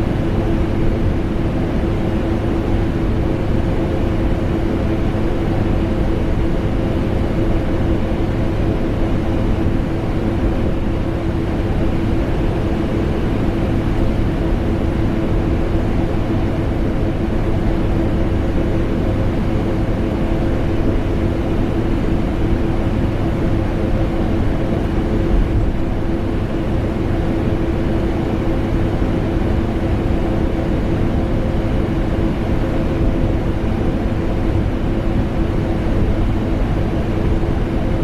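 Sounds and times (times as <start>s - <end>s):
air conditioner rushing air: 0.0s - 38.0s.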